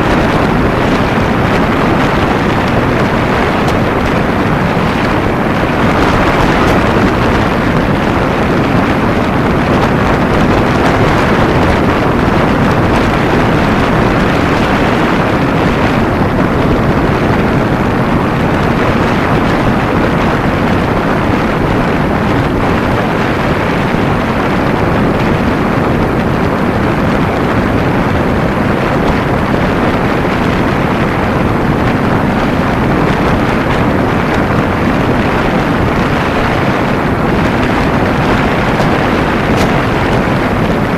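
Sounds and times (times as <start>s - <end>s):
road noise: 0.0s - 40.9s
wind rush on microphone: 0.0s - 40.9s.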